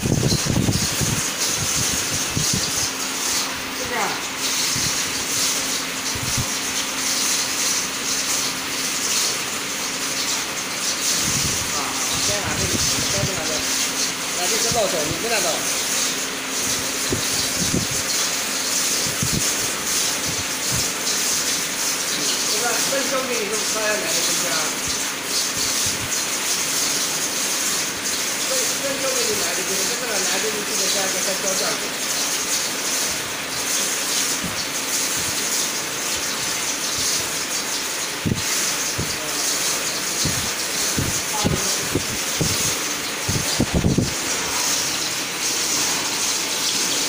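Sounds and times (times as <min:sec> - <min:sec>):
faint machine hum: 0:00.0 - 0:47.0
furnace hiss: 0:00.0 - 0:47.0.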